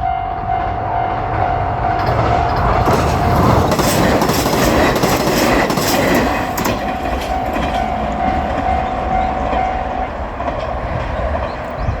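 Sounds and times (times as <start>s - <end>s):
train running noise: 0.0s - 12.0s
train wheels clicking over rail joints: 0.6s - 12.0s.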